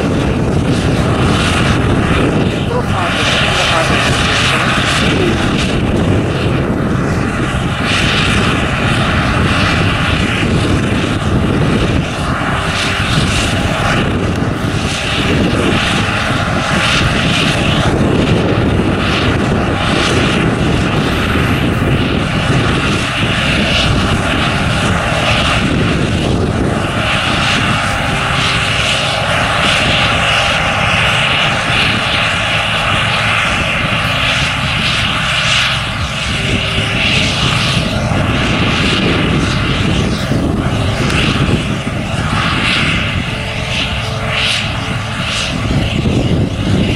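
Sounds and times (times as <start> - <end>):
combine harvester drone: 0.0 - 46.9
steady machine whine: 0.0 - 46.9.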